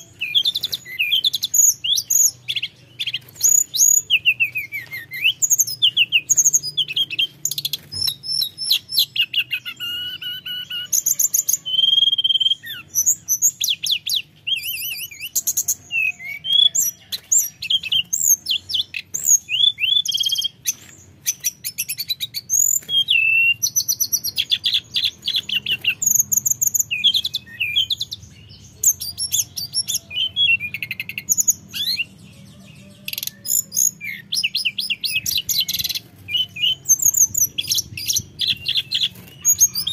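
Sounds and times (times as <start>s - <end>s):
bird warbling and trilling: 0.0s - 39.9s.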